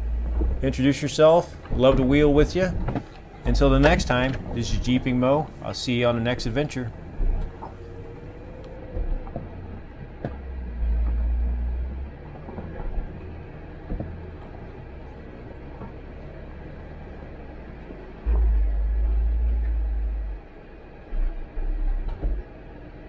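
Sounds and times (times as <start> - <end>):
engine and drivetrain rumble: 0.0 - 23.0.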